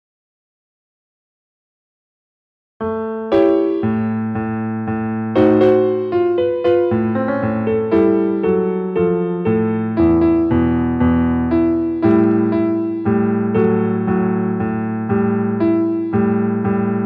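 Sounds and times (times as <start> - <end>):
electric piano slow melody: 2.8 - 17.0.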